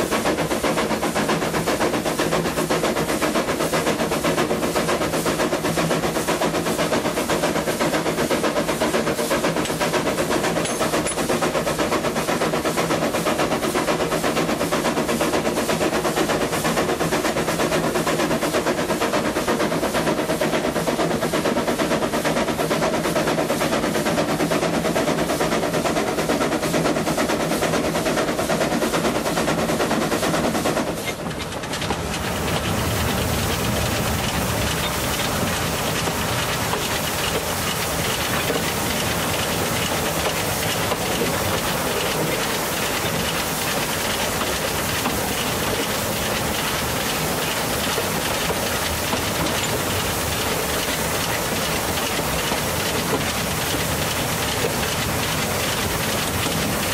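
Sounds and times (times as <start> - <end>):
steam locomotive chuffing: 0.0 - 56.9
wheels clattering on rails: 0.0 - 56.9.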